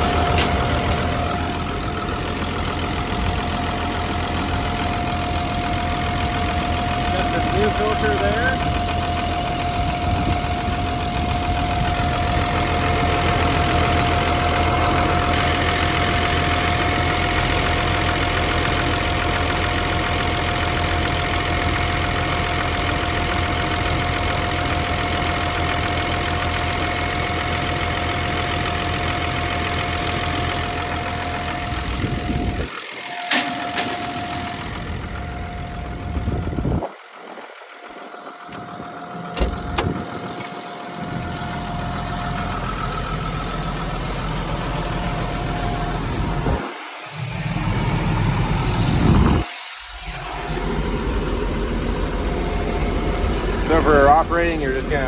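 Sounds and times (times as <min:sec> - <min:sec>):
bulldozer engine idling: 0:00.0 - 0:55.0.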